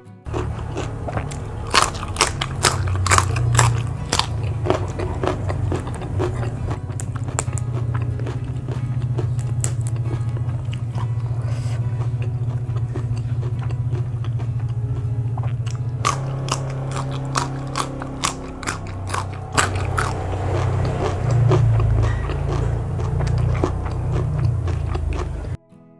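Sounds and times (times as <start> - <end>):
crunchy vegetable chewing: 0.3 - 25.6
steady low hum: 0.3 - 25.6.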